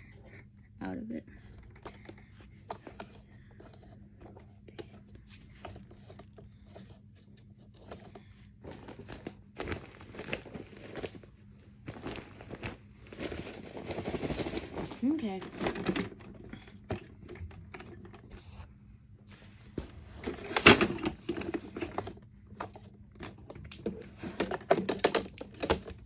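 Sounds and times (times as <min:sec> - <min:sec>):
paper crinkling and rustling: 0:01.6 - 0:26.0.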